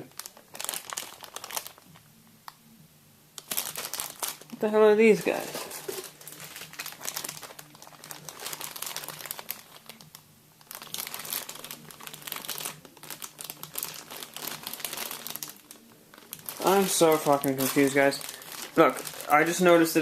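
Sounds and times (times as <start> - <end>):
plastic packaging crinkling: 0.0 - 2.1, 3.4 - 20.0.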